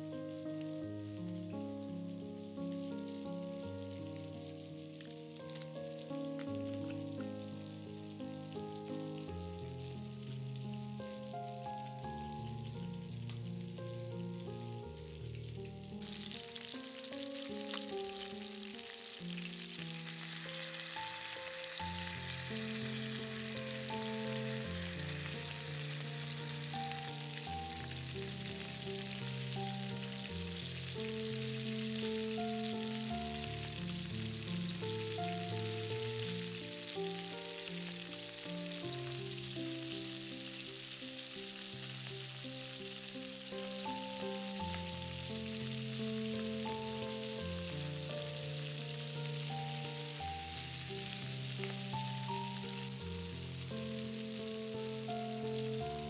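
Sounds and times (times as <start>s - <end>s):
food sizzling in a pan: 0.0s - 56.0s
slow background music: 0.0s - 56.0s.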